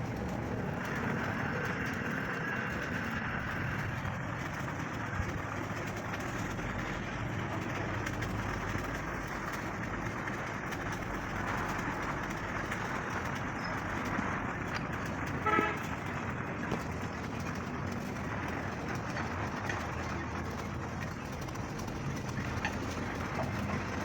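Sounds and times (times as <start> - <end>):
background traffic and street noise: 0.0 - 24.0.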